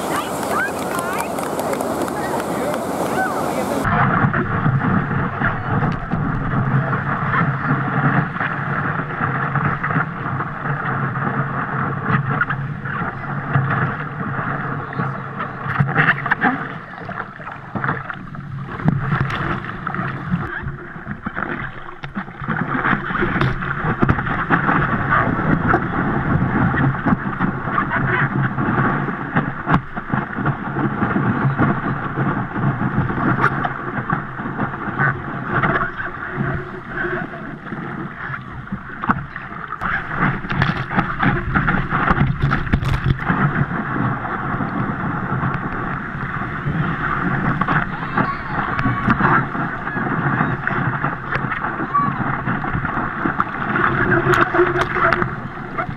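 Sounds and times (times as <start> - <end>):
whitewater rushing and splashing: 0.0 - 55.9.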